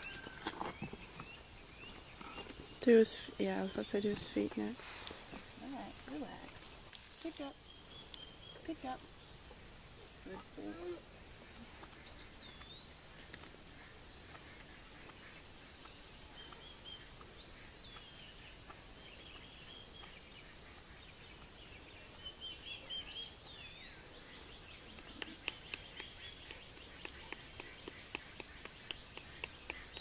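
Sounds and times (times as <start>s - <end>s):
steady hiss: 2.8s - 30.0s.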